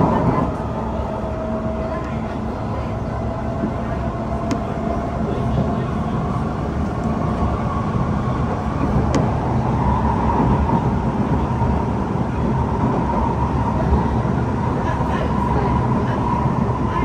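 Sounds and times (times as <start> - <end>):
train whine: 0.0 - 17.0
wheels rumbling on rail: 0.0 - 17.0.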